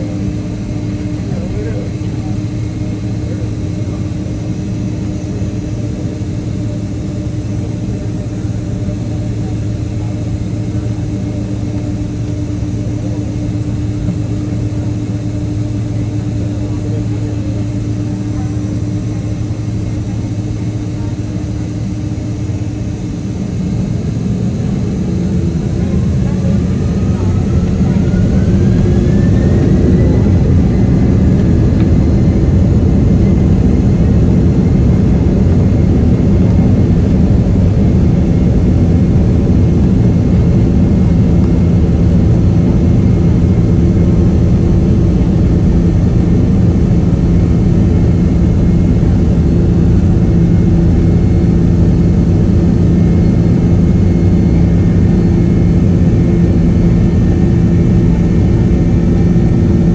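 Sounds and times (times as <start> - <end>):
jet engine roar with whine: 0.0 - 59.9.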